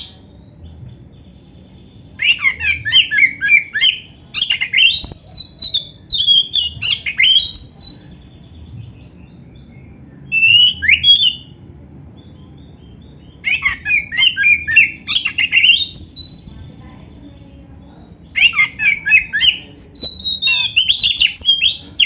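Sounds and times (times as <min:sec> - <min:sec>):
bird singing chirps and trills: 0:00.0 - 0:22.0.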